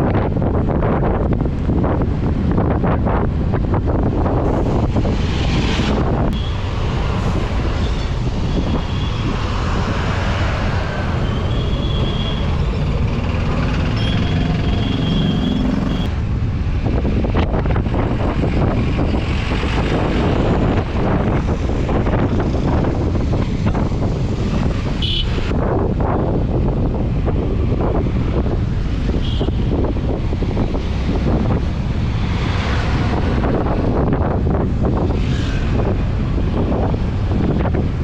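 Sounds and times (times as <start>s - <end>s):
vehicle running on road: 0.0s - 38.0s
wind buffeting microphone: 0.0s - 38.0s.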